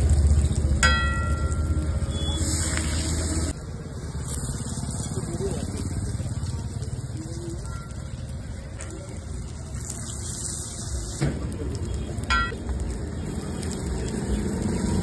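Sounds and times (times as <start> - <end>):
flatbread sizzling in butter: 0.0 - 15.0.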